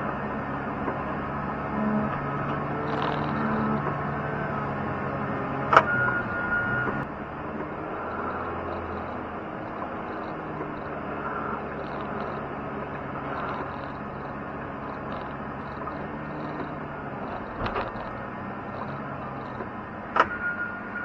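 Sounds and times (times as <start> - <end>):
snow plow engine running: 0.0 - 21.0.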